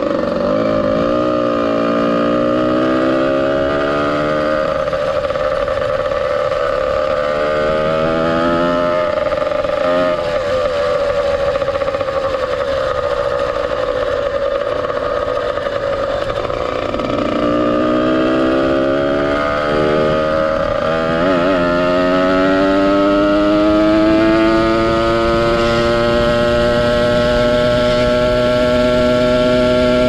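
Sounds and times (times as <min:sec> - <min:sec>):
two-stroke engine running: 0:00.0 - 0:30.0.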